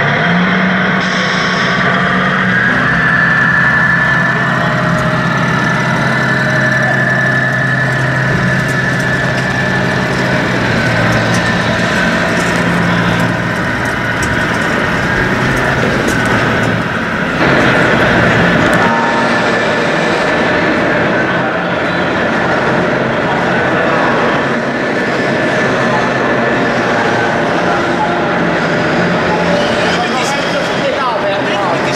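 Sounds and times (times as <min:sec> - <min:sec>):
exhibition hall noise: 0:00.0 - 0:31.9
toy truck engine idling: 0:00.0 - 0:31.9.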